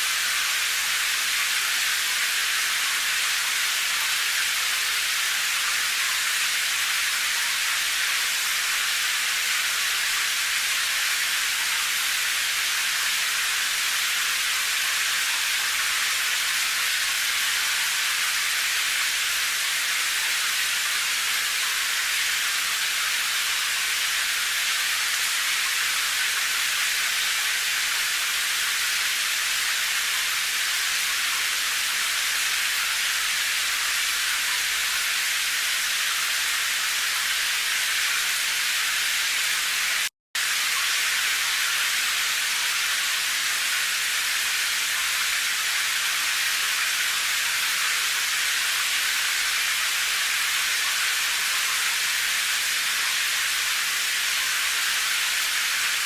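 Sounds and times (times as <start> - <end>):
rain hissing: 0.0 - 56.0.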